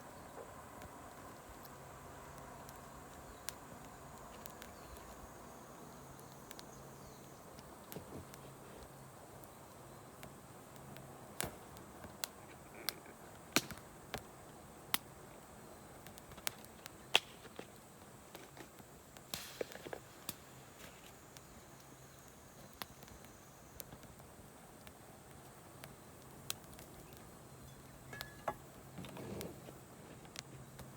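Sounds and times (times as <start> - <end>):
faint steady hiss: 0.0 - 30.9
campfire crackling and popping: 0.1 - 30.9.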